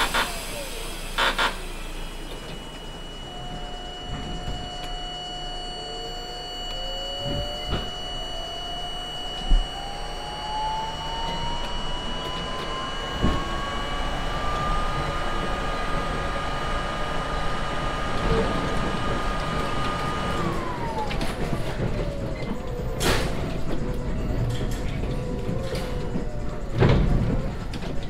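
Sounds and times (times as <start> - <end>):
steady high tone: 0.0 - 27.8
subway motors whining: 0.0 - 28.0
train running rumble: 0.0 - 28.0.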